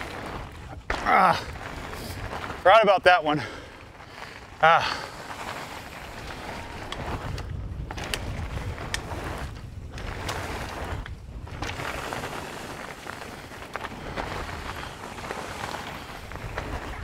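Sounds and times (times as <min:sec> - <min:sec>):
bike clicks and rattles: 0:00.0 - 0:17.0
tyres rumbling on dirt: 0:00.0 - 0:17.0
wind buffeting microphone: 0:00.0 - 0:17.0.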